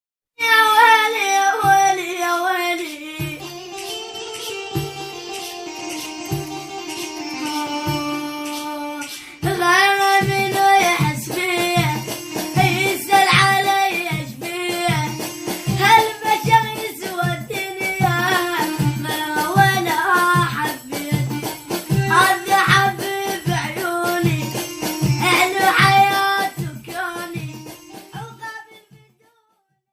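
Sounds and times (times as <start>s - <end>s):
held instrumental notes: 1.3s - 28.7s
steady drum beat: 3.2s - 3.7s, 4.7s - 29.1s.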